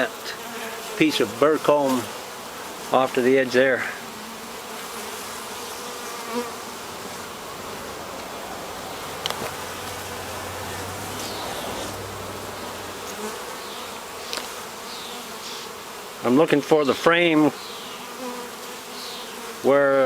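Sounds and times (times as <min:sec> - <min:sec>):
honey bees buzzing: 0:00.0 - 0:20.0.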